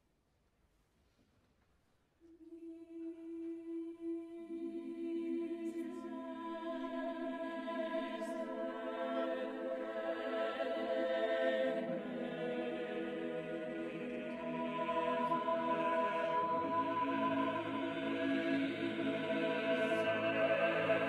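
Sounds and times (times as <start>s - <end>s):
choir singing a cappella: 2.4s - 21.0s.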